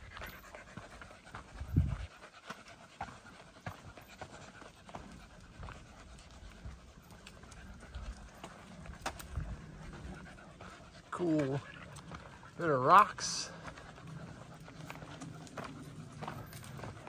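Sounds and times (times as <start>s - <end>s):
dog panting: 0.0s - 17.0s
footsteps on rocky dirt trail: 0.0s - 17.0s.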